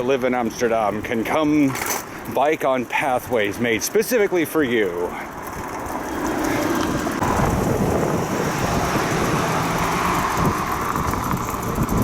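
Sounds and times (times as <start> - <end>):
road traffic passing: 0.0 - 12.0
wind: 0.0 - 12.0.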